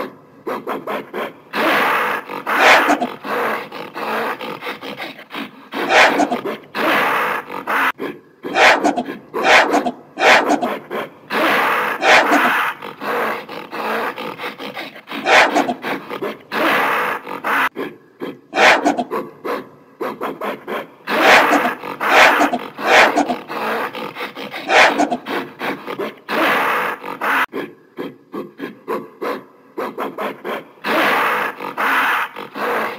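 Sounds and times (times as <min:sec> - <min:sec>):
gorilla vocalising in rough bursts: 0:00.0 - 0:19.4, 0:20.1 - 0:27.5, 0:30.0 - 0:32.9.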